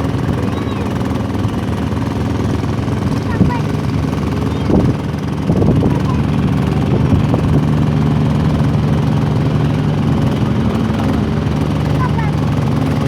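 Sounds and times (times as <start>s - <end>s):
boat engine low drone: 0.0s - 13.0s.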